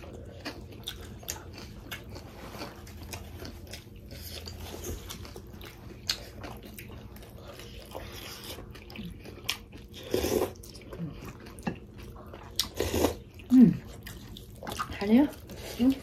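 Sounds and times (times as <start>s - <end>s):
chewing and biting dumplings: 0.0s - 16.0s.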